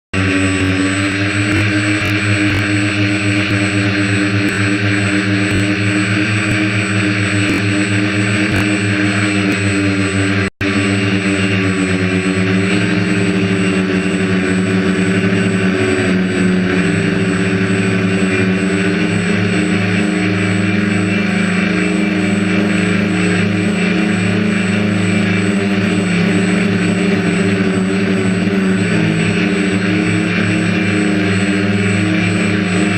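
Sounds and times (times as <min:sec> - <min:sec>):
drone propellers whirring: 0:00.1 - 0:32.9.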